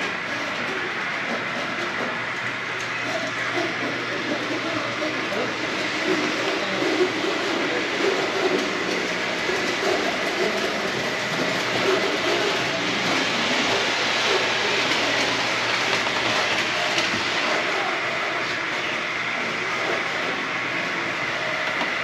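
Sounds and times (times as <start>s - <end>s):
train rolling on track: 0.0s - 22.0s.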